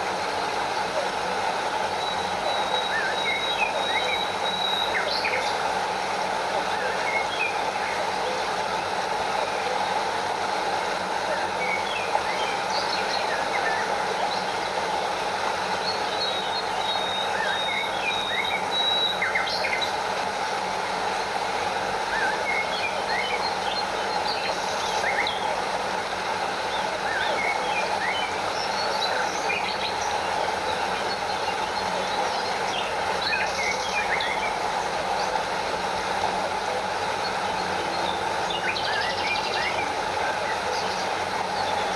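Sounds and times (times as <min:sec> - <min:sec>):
stream and small waterfall: 0:00.0 - 0:41.9.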